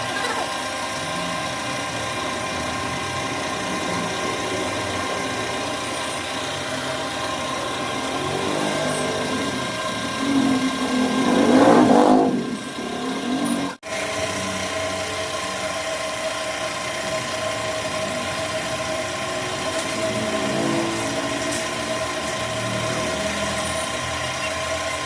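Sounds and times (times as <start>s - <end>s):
power tool running: 0.0s - 25.0s.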